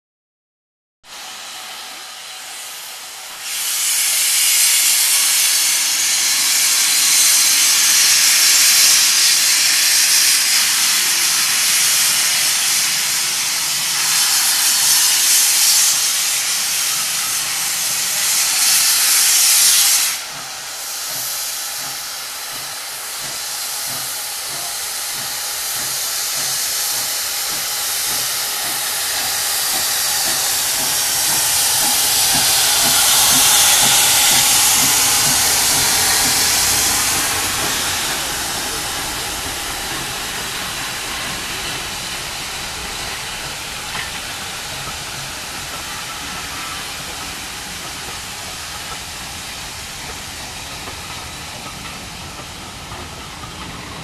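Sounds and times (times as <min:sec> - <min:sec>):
loud hiss of steam: 0:01.1 - 0:54.0
steam locomotive rhythmic beat: 0:01.2 - 0:54.0.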